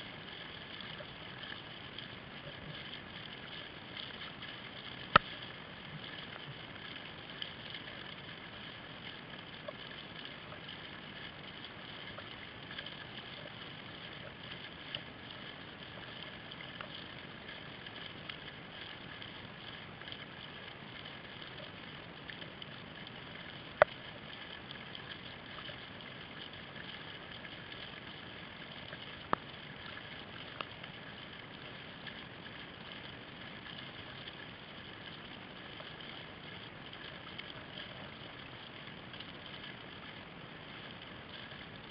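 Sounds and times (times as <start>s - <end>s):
water and wind noise: 0.0s - 41.9s.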